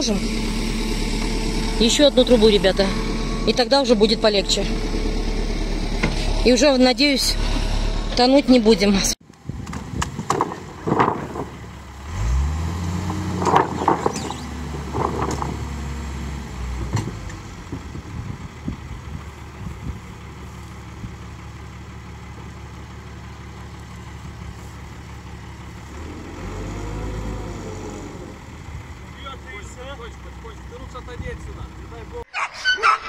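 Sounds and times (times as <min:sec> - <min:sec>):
diesel engine running: 0:00.0 - 0:32.3.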